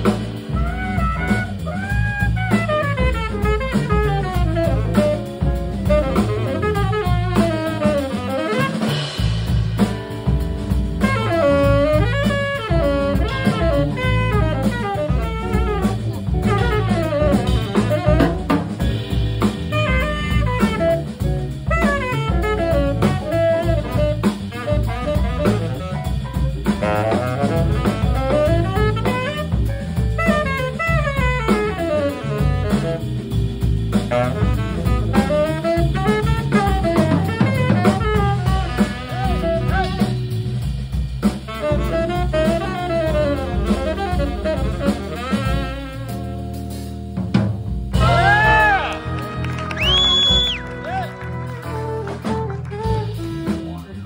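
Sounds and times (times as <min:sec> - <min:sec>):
saxophone solo: 0:00.0 - 0:47.0, 0:47.8 - 0:54.0
bass: 0:00.0 - 0:54.0
drum kit: 0:00.0 - 0:54.0.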